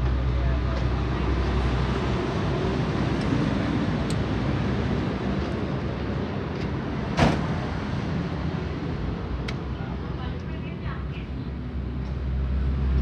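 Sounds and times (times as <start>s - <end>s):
background traffic noise: 0.0s - 13.0s.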